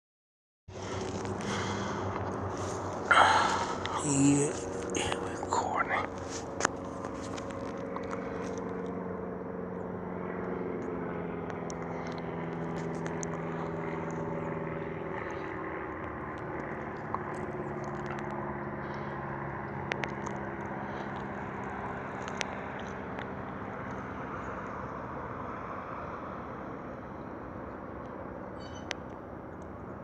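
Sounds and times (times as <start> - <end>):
distant traffic noise: 0.7 - 30.0
vehicle engine humming: 0.7 - 30.0.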